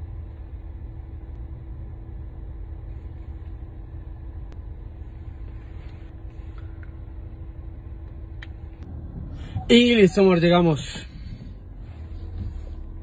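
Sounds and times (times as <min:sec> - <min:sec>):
car engine idling: 0:00.0 - 0:13.0
faint steady hum: 0:00.0 - 0:13.0.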